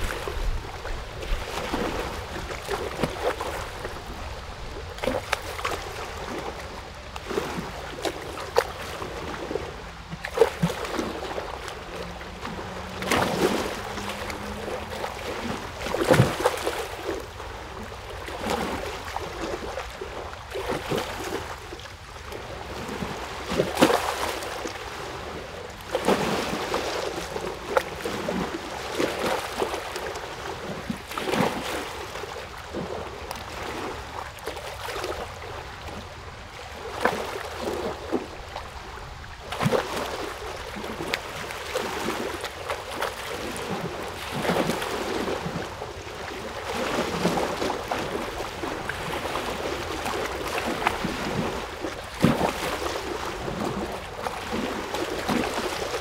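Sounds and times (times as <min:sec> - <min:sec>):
low water wash: 0:00.0 - 0:56.0
water lapping and splashing: 0:00.0 - 0:56.0.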